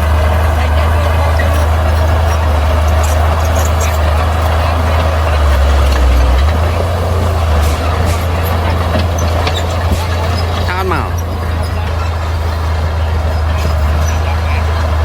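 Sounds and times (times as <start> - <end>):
bulldozer diesel engine droning: 0.0 - 15.0.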